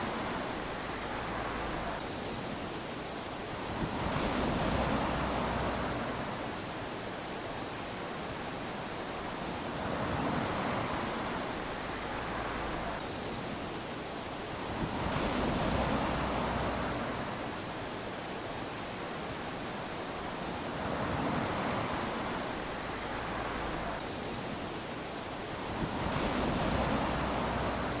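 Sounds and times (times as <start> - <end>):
waves lapping on sandy shore: 0.0 - 28.0.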